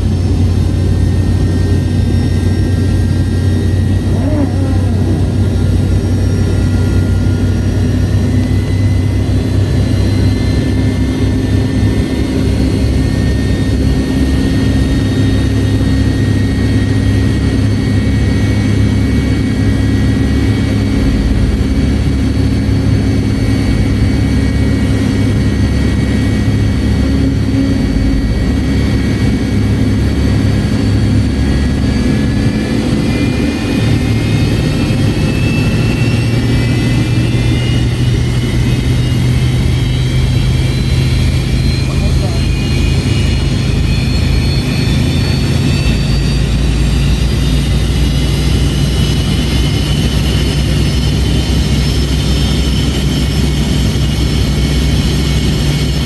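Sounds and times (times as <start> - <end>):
faint high engine whine: 0.0 - 56.0
jet engine low rumble: 0.0 - 56.0.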